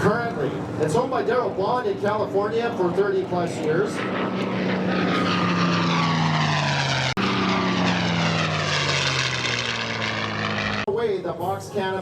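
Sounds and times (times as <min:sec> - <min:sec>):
propeller plane flying past: 0:00.0 - 0:12.0.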